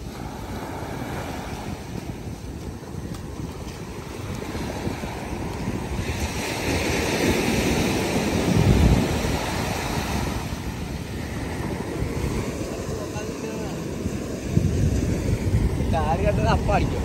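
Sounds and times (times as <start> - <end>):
surf breaking on sand beach: 0.0 - 17.0
wind rumbling on microphone: 0.0 - 17.0.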